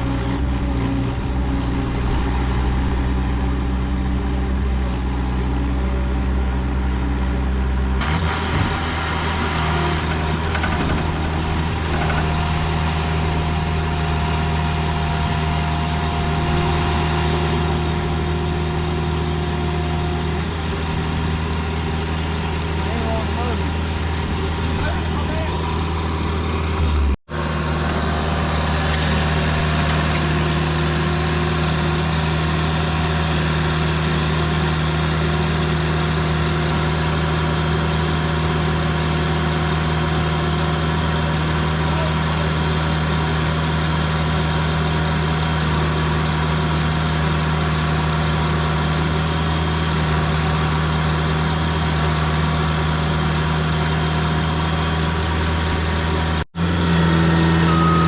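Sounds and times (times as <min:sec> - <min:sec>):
heavy equipment engine humming: 0:00.0 - 0:58.0.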